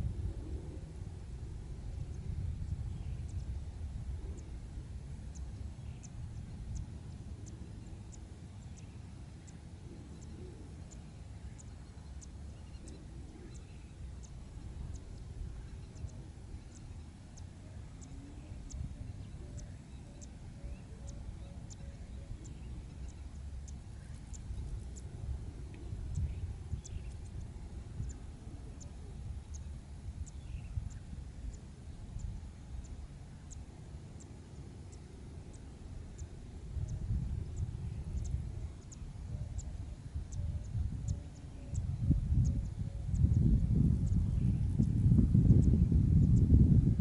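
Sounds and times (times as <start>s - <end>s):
wind rumbling on microphone: 0.0s - 47.0s
faint high ticking call: 2.0s - 46.5s.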